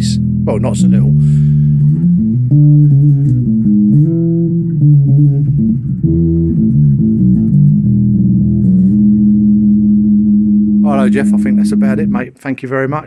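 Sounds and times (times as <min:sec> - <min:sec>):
plucked electric bass: 0:00.0 - 0:12.4.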